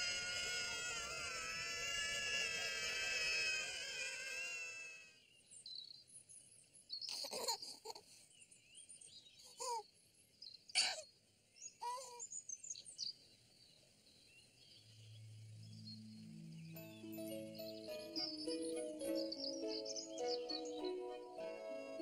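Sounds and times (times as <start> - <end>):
birds chirping and twittering: 0.0 - 22.0.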